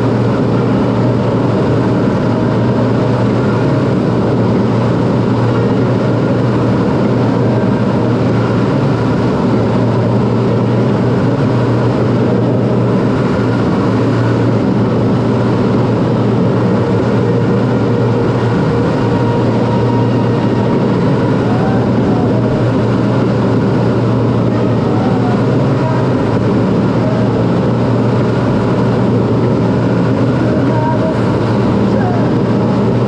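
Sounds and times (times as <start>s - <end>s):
jet engine rumble in cockpit: 0.0s - 33.0s.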